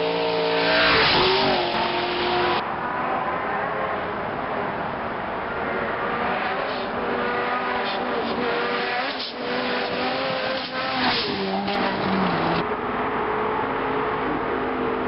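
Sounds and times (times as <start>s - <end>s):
race car passing at full throttle: 0.0s - 15.0s.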